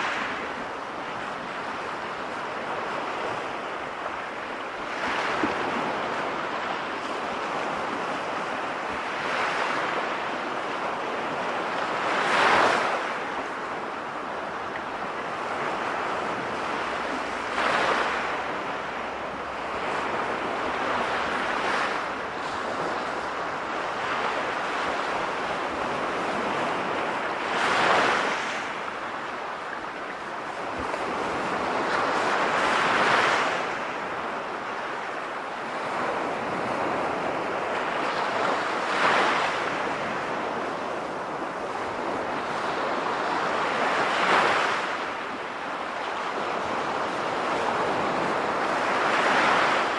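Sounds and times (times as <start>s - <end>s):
sea waves breaking: 0.0s - 49.9s.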